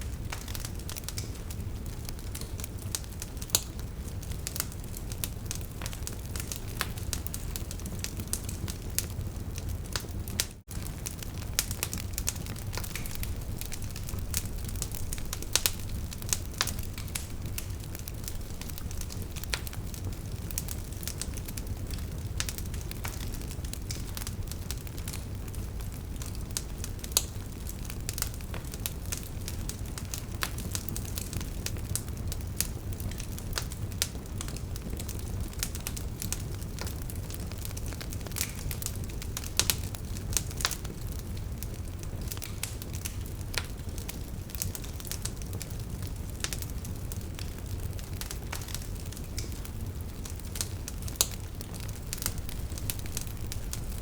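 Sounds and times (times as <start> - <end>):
logs crackling and popping: 0.0 - 54.0
wood fire burning: 0.0 - 54.0.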